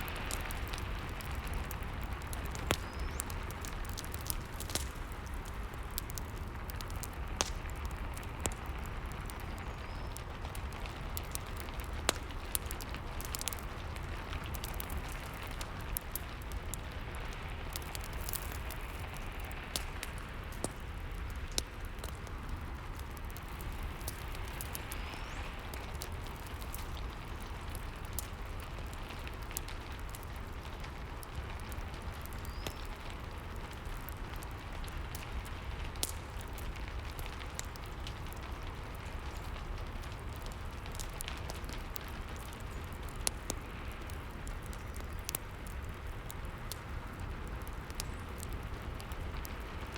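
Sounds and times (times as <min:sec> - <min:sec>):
crackling wood fire pops: 0:00.0 - 0:49.9
steady rain: 0:00.0 - 0:49.9.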